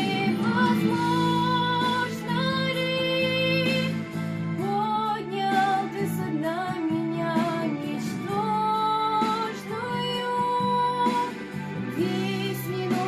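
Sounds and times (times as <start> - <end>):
girl singing worship song: 0.0 - 4.0, 4.6 - 13.0
instrumental accompaniment: 0.0 - 13.0.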